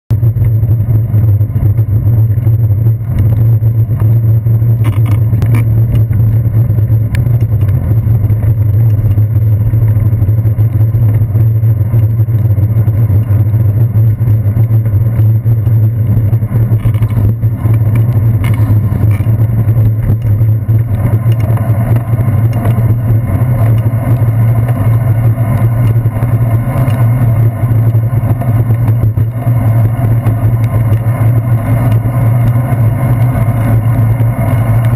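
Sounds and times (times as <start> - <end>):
wind and road rumble: 0.1 - 34.9.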